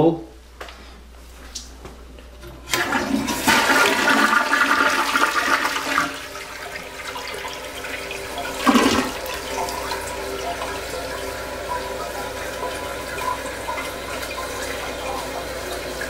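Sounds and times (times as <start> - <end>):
toilet flushing: 2.4 - 16.0.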